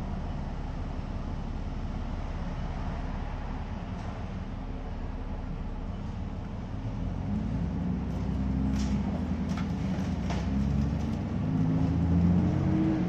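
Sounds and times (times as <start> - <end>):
bus engine accelerating: 0.0 - 13.0.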